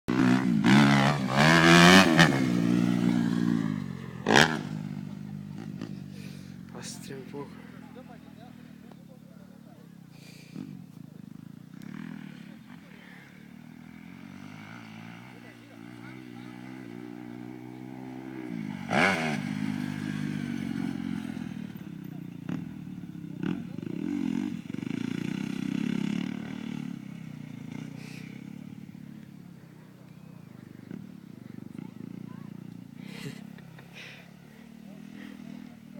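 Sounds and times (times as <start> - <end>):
motocross bike engine revving: 0.1 - 35.9.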